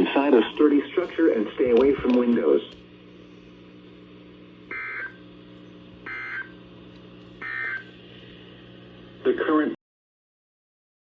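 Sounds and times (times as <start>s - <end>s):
low receiver hum: 0.0s - 9.8s.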